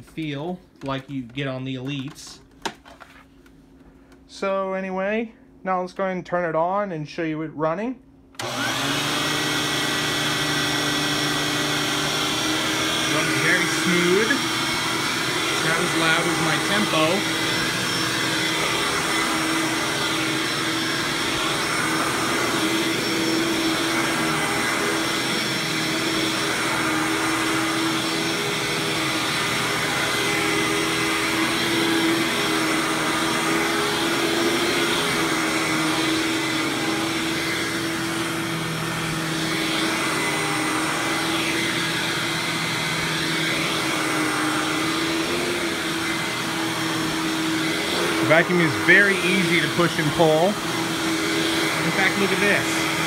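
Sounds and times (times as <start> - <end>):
vacuum cleaner on carpet: 8.4 - 53.0.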